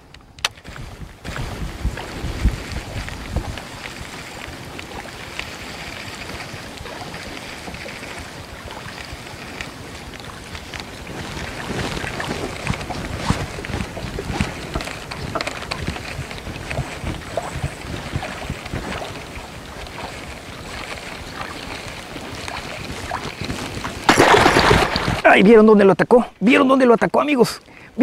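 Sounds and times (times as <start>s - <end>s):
water lapping around boat: 0.0s - 25.4s
wind buffeting microphone: 0.0s - 26.0s
light clicks and splashes: 0.1s - 25.3s.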